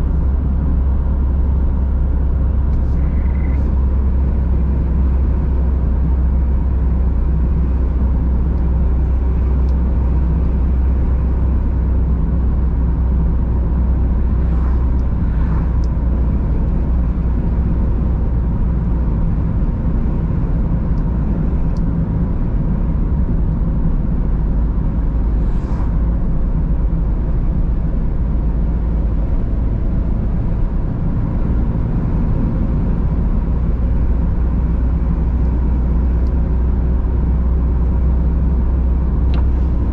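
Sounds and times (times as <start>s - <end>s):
car interior road rumble: 0.0s - 39.9s.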